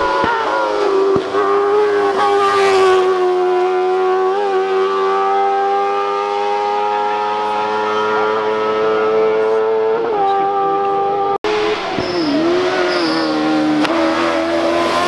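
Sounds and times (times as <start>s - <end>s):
buggy engine at high revs: 0.0s - 15.0s.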